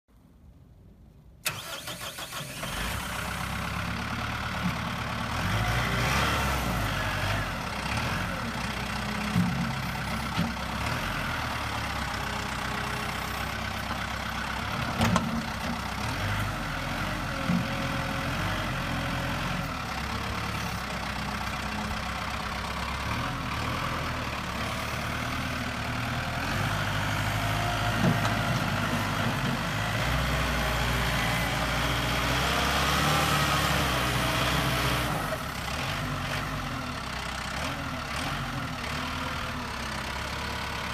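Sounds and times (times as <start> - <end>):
tractor diesel engine starting: 1.4 - 40.9
tractor engine running: 1.4 - 40.9.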